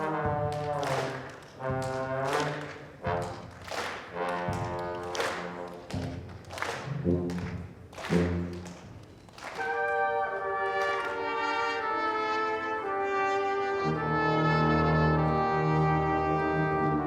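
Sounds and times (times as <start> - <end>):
brass ensemble playing chords: 0.0 - 5.9, 6.7 - 8.9, 9.5 - 17.0.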